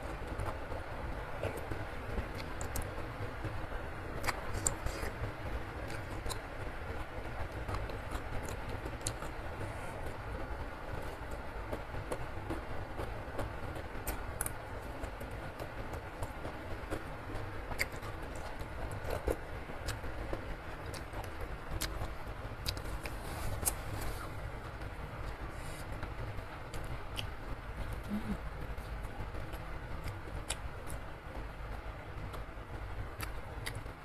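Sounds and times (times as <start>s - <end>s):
low background rumble: 0.0s - 34.0s.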